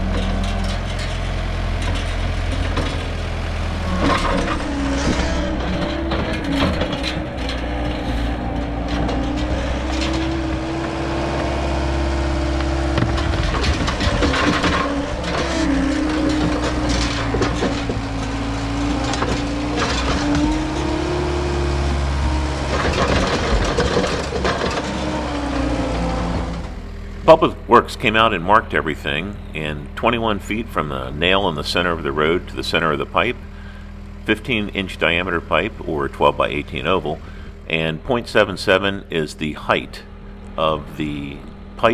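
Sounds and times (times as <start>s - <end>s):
diesel engine with wavering whine: 0.0s - 41.9s.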